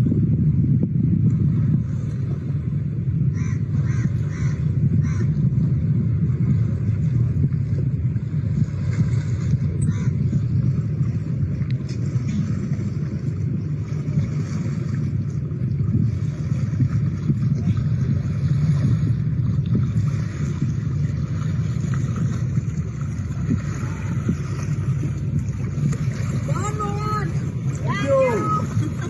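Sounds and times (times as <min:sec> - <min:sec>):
boat engine rumble: 0:00.0 - 0:29.0.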